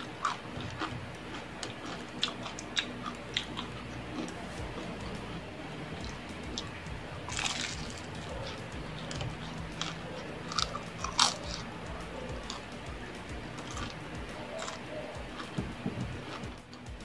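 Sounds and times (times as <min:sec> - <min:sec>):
crunchy bites and chewing: 0:00.0 - 0:05.4, 0:06.0 - 0:16.8
wet mouth clicks: 0:00.0 - 0:16.9.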